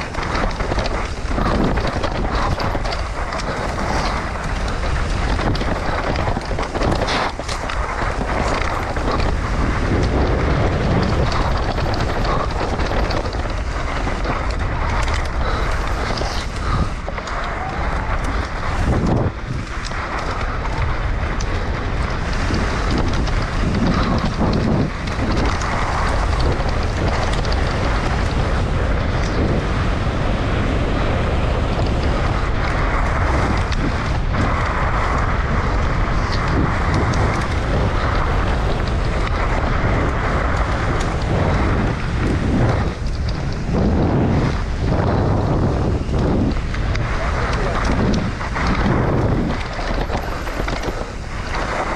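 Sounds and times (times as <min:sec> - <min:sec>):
bike clattering over bumps: 0:00.0 - 0:51.9
tyres rolling on dirt: 0:00.0 - 0:51.9
wind rushing over microphone: 0:00.0 - 0:51.9.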